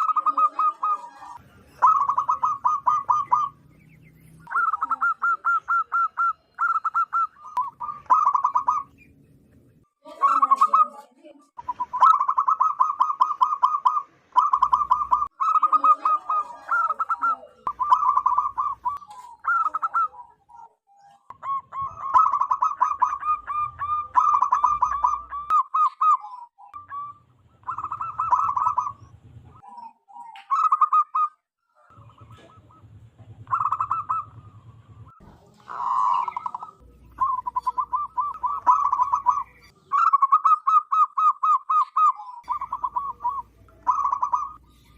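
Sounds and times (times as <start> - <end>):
doves cooing: 0.0 - 44.9.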